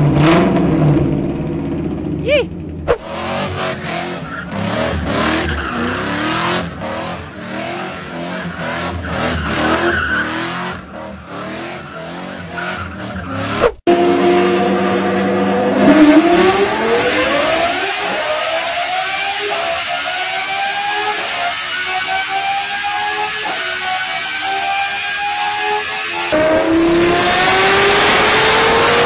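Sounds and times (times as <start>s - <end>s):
car engine at high revs: 0.0s - 29.0s
car engine revving up: 0.0s - 29.0s.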